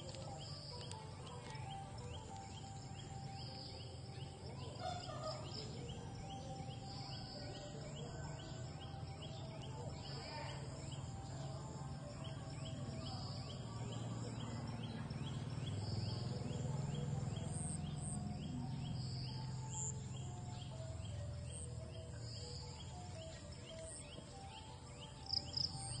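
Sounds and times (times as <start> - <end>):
insect chirps: 0.0 - 26.0.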